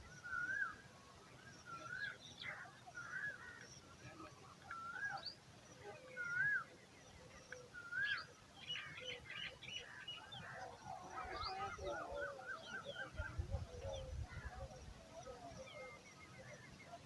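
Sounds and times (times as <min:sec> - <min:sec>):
birds calling: 0:01.7 - 0:17.0.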